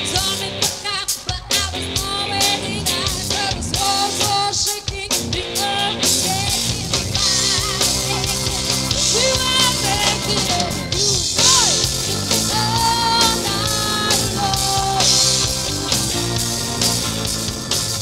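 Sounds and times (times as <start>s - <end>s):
live rock band: 0.0s - 18.0s.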